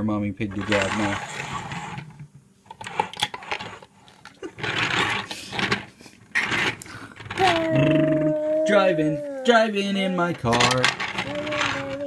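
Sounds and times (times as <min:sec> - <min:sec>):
toy car wheels rolling on wood: 0:00.5 - 0:08.8, 0:10.0 - 0:12.0.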